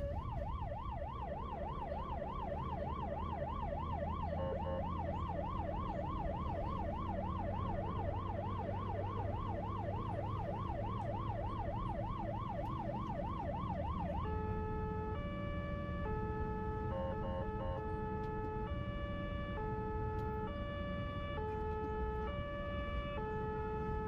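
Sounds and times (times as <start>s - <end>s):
emergency vehicle siren: 0.0s - 24.0s
low traffic rumble: 0.0s - 24.0s.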